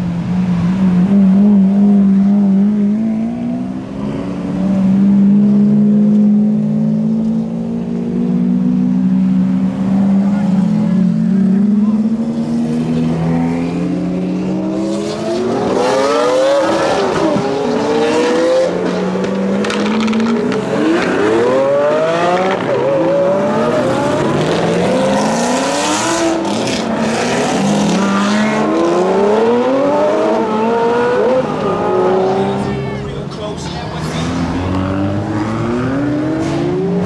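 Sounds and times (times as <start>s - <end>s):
car engines accelerating hard: 0.0s - 37.0s.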